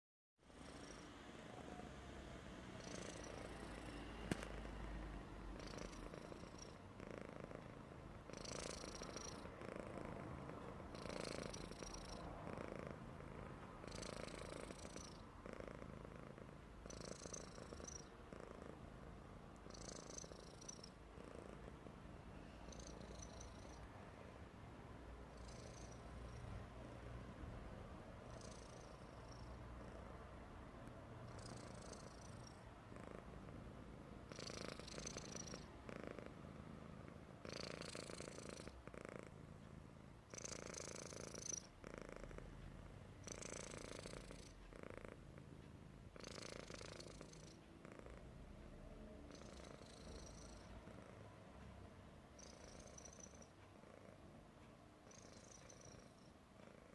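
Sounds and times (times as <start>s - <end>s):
cat snoring with wheezy whistle: 0.4s - 51.7s, 52.3s - 54.4s, 55.0s - 56.9s
cat purring: 0.5s - 56.9s.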